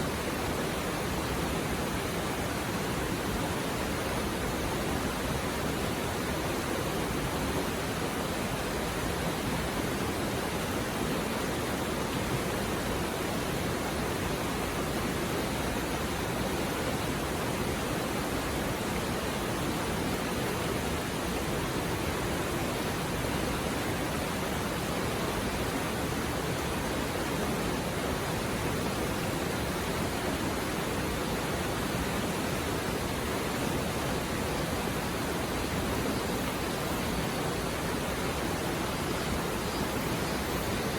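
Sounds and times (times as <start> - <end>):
river water babbling over rocks: 0.0 - 40.9.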